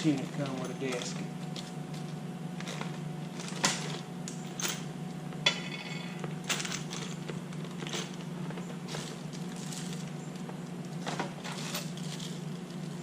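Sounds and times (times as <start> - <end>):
small metal parts rummaged: 0.0 - 4.9, 5.5 - 10.2, 11.0 - 13.0.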